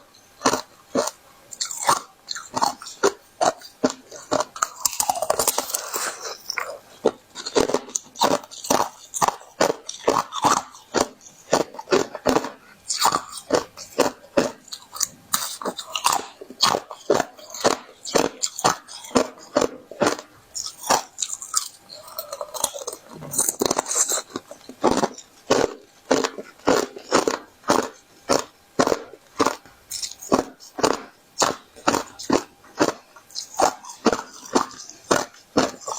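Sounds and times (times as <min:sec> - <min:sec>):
ice being chewed: 0:00.0 - 0:35.9.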